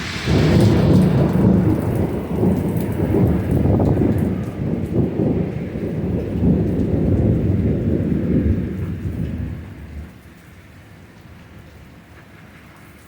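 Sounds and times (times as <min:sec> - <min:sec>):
thunder rumbling: 0:00.0 - 0:11.8
steady rain: 0:00.0 - 0:13.0.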